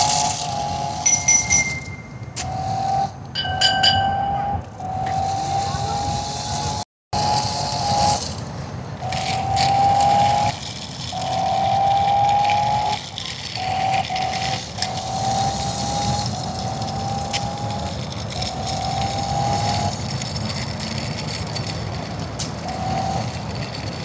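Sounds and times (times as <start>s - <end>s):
rc car motor whining: 0.0s - 3.2s, 4.8s - 24.0s.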